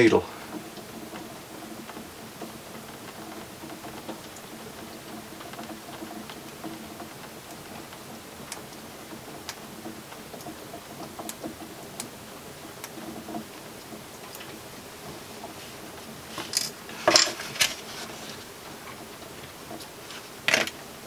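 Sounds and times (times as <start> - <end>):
rain running off roof: 0.0 - 21.0.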